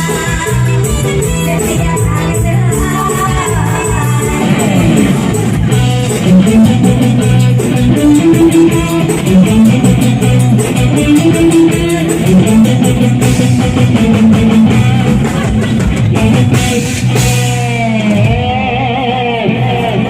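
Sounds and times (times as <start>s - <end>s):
drum kit beat: 0.0s - 20.0s
electric guitar: 0.0s - 20.0s
person singing: 0.0s - 20.0s.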